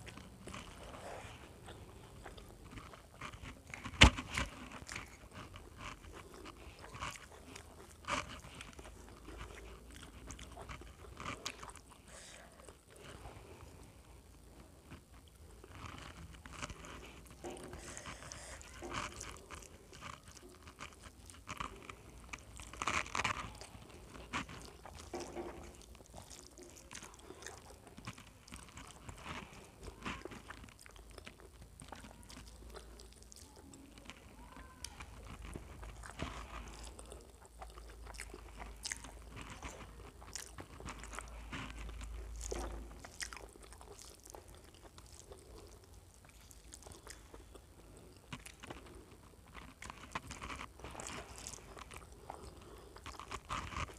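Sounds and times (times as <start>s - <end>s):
chewing and wet mouth sounds: 0.0s - 53.9s.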